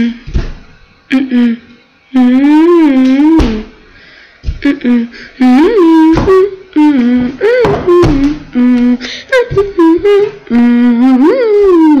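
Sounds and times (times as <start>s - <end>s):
girl singing a wordless tune: 1.1s - 3.8s, 4.4s - 12.0s.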